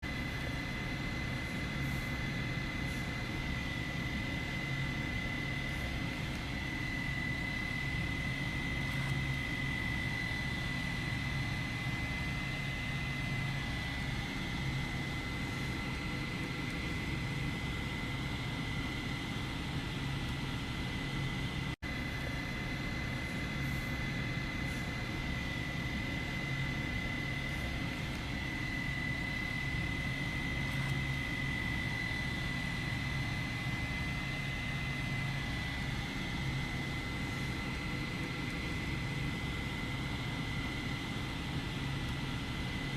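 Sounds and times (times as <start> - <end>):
small fan whirring: 0.0 - 42.9.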